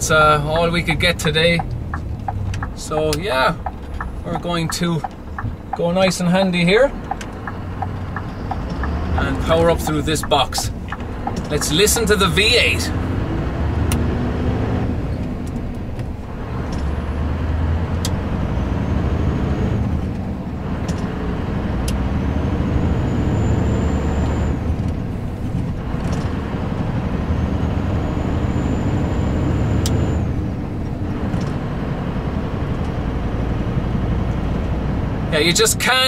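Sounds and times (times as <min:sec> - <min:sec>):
diesel truck engine revving: 0:00.0 - 0:36.0
gear changes: 0:00.0 - 0:36.0.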